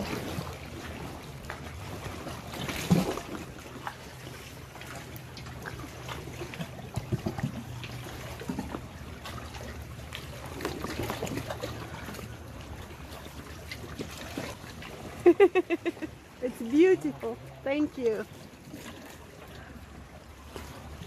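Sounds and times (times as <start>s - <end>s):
paddle splashes and drips: 0.0s - 21.0s
water trickling around canoe: 0.0s - 21.0s.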